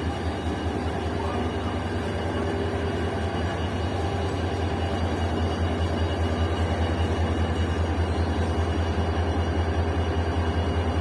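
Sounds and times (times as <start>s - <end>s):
train running: 0.0s - 11.0s.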